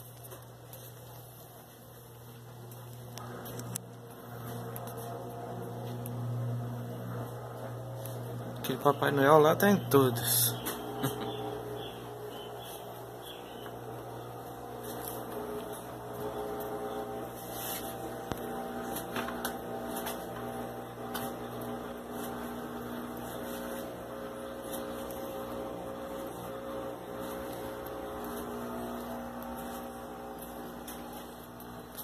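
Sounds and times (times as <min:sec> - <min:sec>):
electrical hum with held tones: 0:00.0 - 0:32.0.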